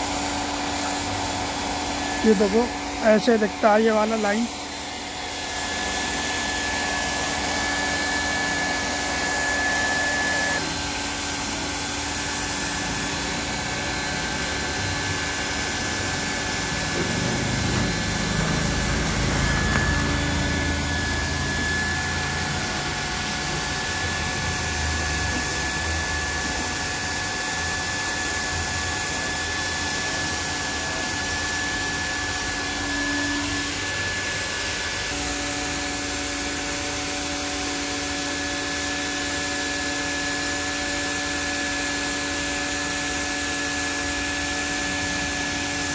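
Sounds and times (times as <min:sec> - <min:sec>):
hot-air welding gun whine: 0:00.0 - 0:45.9.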